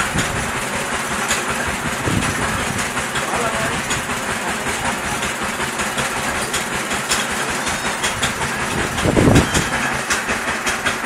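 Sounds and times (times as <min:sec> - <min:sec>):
drilling rig rattling: 0:00.0 - 0:11.0
rapid clicking: 0:00.1 - 0:11.0.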